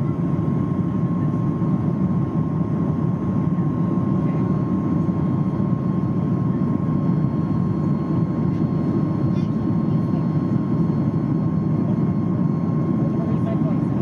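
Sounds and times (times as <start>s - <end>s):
airflow and engine rush: 0.0s - 14.0s.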